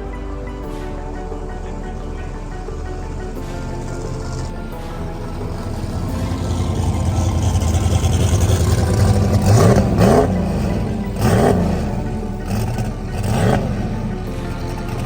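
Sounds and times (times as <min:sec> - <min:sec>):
racing engine revving: 0:00.0 - 0:15.0.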